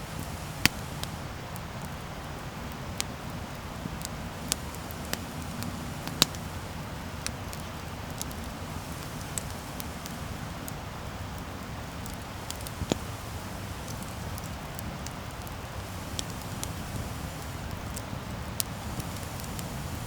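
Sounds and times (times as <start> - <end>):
campfire flames rumbling: 0.0 - 20.0
wood crackling and popping: 0.0 - 20.0.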